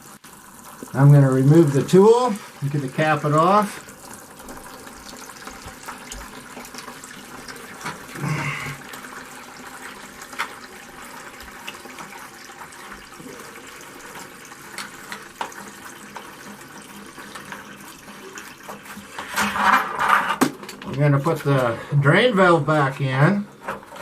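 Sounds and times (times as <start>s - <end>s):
water draining from hose: 0.0s - 24.0s.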